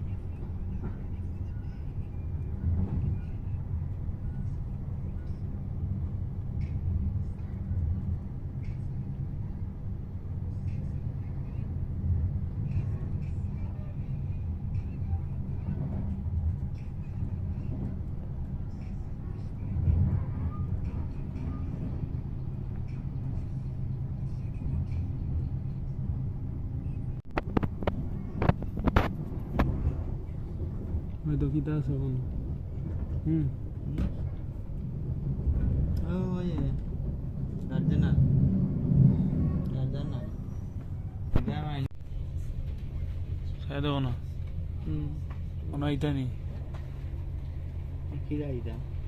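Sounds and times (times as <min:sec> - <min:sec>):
train rumbling inside carriage: 0:00.0 - 0:49.0.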